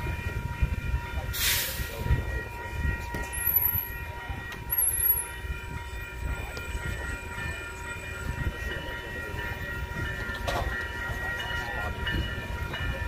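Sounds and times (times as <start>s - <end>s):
high-pitched train tones: 0.0s - 13.0s
low uneven train rumble: 0.0s - 13.0s.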